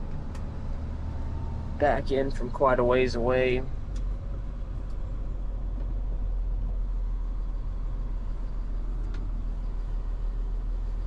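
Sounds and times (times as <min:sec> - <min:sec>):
tow truck engine running: 0:00.0 - 0:11.0.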